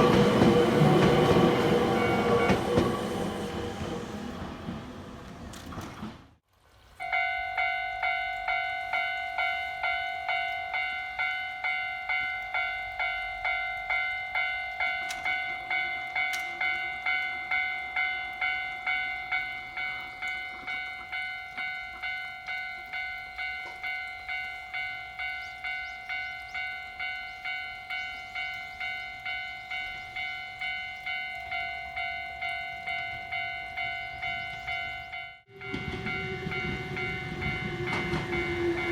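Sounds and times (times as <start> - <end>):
level-crossing warning bell: 0.0 - 4.2, 7.0 - 38.9
passing train running noise: 0.0 - 6.4, 8.1 - 38.9.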